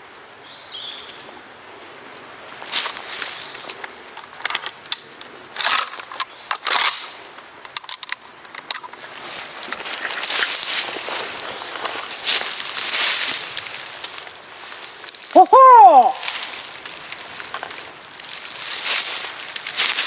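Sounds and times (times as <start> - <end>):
dry leaves rustling: 0.0 - 20.0.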